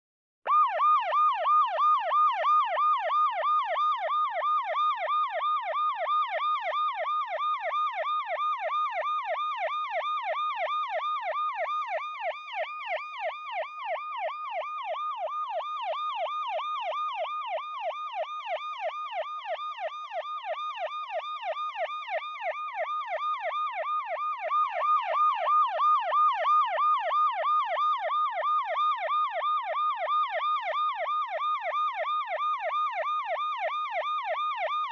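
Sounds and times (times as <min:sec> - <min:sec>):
police siren yelping: 0:00.5 - 0:34.9.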